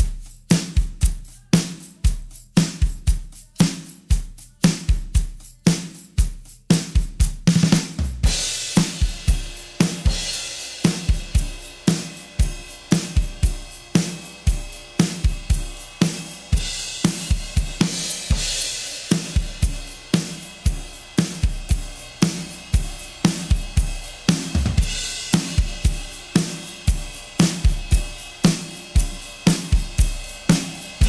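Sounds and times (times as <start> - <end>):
drum kit playing a groove: 0.0 - 31.0.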